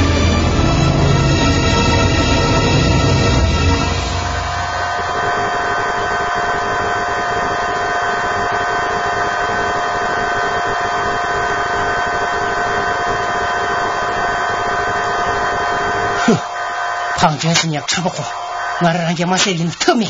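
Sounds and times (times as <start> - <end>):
constant high hum: 0.0 - 20.0.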